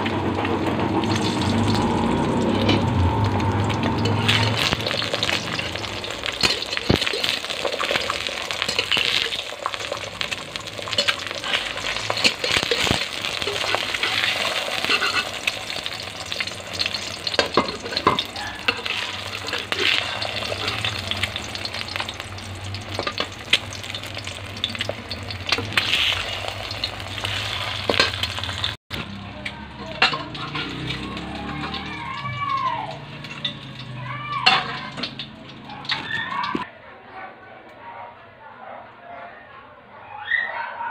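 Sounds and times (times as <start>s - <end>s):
egg sizzling in hot oil: 0.0s - 36.7s.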